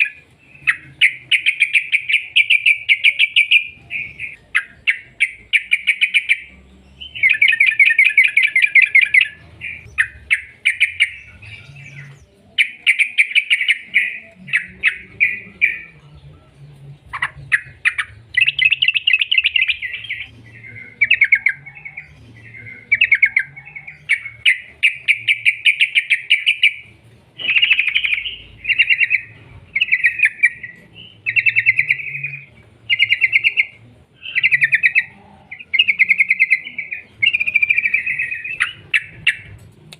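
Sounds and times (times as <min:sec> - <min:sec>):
bulbul singing rapid chattering trill: 0:00.0 - 0:39.9.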